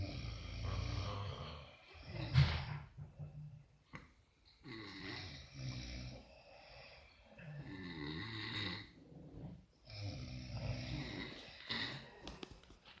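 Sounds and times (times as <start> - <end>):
person snoring: 0.0 - 2.9, 4.6 - 12.4.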